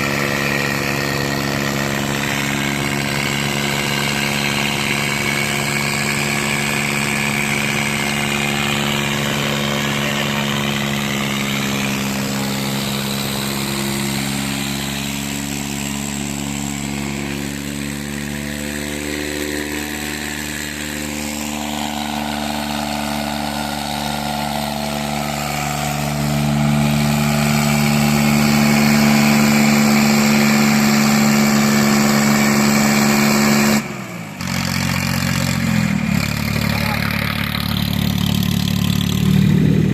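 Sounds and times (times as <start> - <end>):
tractor engines droning under load: 0.0 - 39.9.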